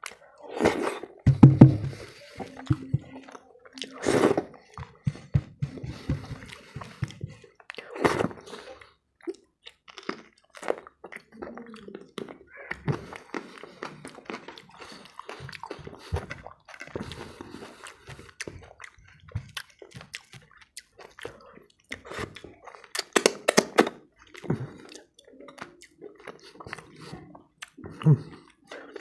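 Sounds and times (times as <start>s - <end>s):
wet chewing and lip smacking: 0.0s - 1.2s, 1.9s - 29.0s.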